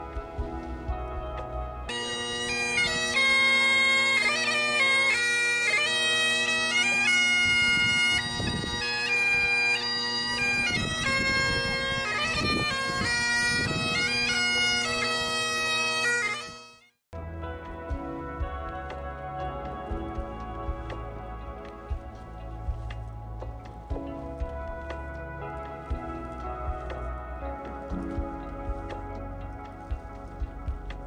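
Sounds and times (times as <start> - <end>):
other music: 0.0 - 15.2, 17.2 - 31.0
bagpipe music: 0.0 - 31.0.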